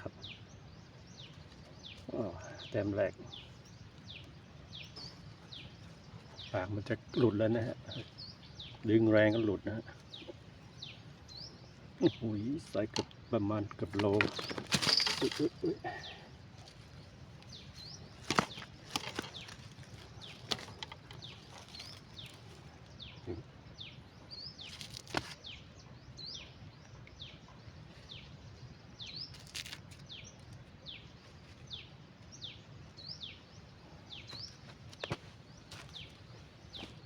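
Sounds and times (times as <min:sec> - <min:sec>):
bird chirping: 0:00.0 - 0:37.0
faint outdoor hiss: 0:00.0 - 0:37.0.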